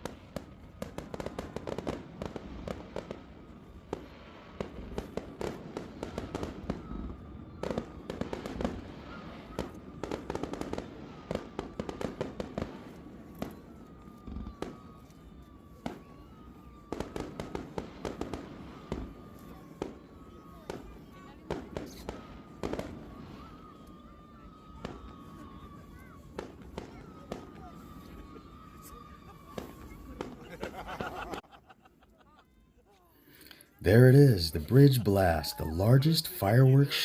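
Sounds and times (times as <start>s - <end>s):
fireworks bangs and crackling: 0.0s - 31.4s, 33.8s - 37.0s.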